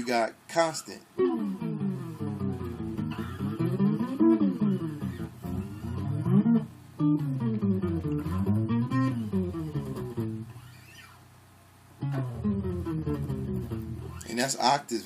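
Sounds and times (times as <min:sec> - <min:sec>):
bass guitar octave slides: 0:01.2 - 0:11.2, 0:12.0 - 0:14.4.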